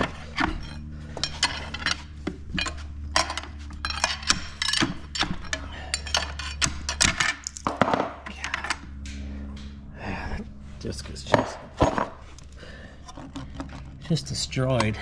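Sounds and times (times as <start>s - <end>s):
metal clinking and scraping: 0.0s - 8.9s, 11.2s - 15.0s
steady low hum: 0.0s - 15.0s.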